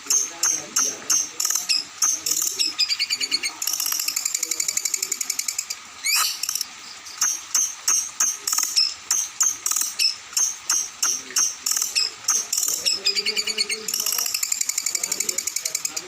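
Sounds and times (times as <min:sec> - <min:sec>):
songbird chirping song: 0:00.0 - 0:16.0.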